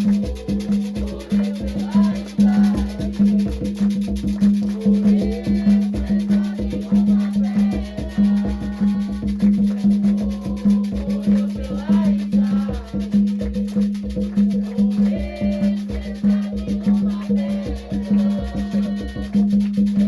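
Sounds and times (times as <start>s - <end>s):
voices singing: 0.0s - 13.4s, 14.4s - 20.0s
drums beating fast rhythm: 0.0s - 20.0s
shaker: 0.0s - 20.0s.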